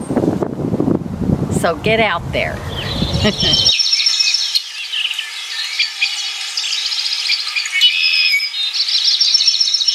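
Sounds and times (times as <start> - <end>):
birds chirping and trilling: 1.8 - 9.9.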